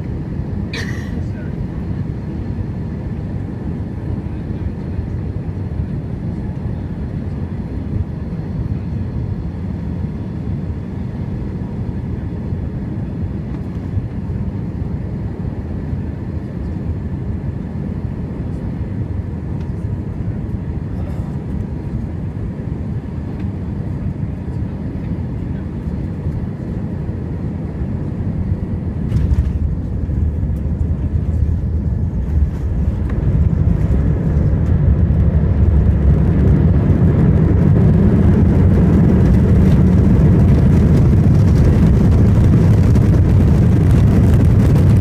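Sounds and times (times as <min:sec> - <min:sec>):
aircraft engine and airflow rumble: 0:00.0 - 0:45.0.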